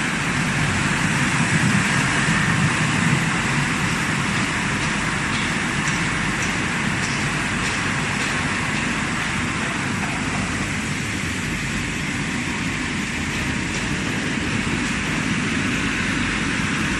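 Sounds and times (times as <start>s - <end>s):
washing machine running with rumble: 0.0s - 16.9s.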